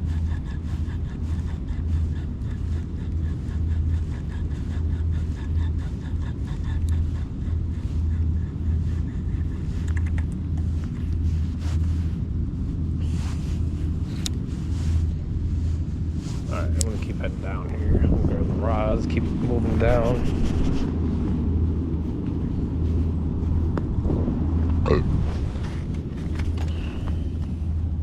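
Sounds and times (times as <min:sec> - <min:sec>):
pulsing low rumble: 0:00.0 - 0:28.0.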